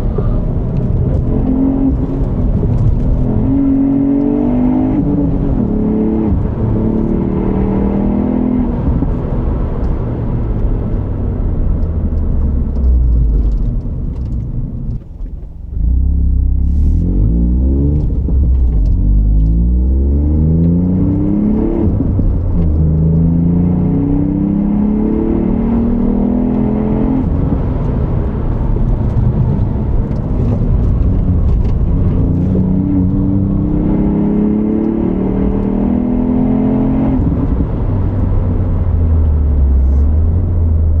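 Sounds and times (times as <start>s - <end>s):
car engine accelerating hard: 0.0s - 41.0s.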